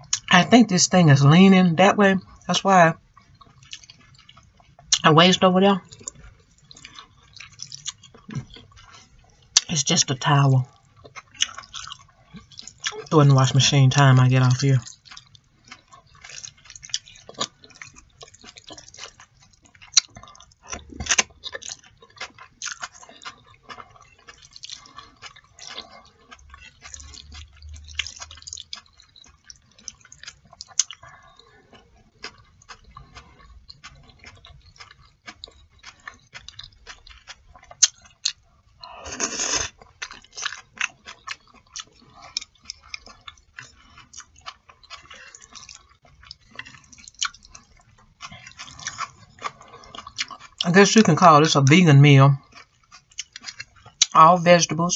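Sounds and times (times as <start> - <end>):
wet chewing and mouth sounds: 0.0 - 54.9.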